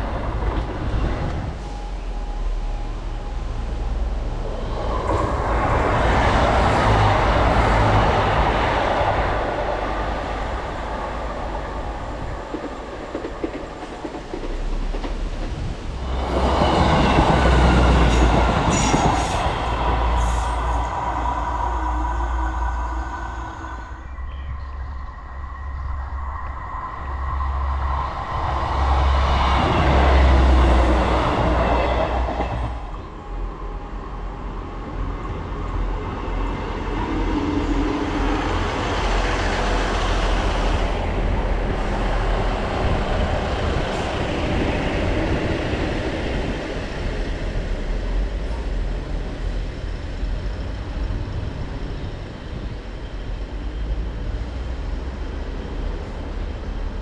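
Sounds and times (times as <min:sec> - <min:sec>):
train wheels on rails: 0:00.0 - 0:25.0, 0:25.7 - 0:57.0
diesel train engines running: 0:00.0 - 0:57.0.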